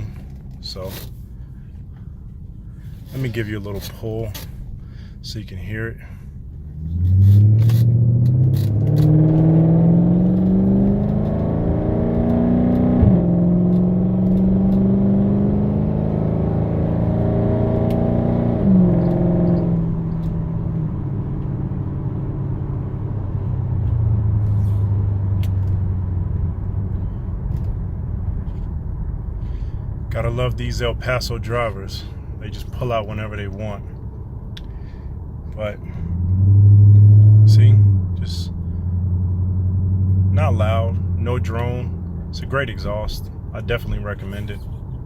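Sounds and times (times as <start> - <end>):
car engine accelerating: 6.4 - 45.0.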